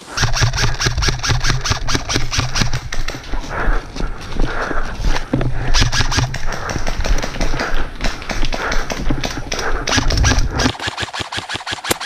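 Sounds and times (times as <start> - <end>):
hard breathing: 0.0 - 10.9
footsteps and jostling gear: 0.1 - 12.0.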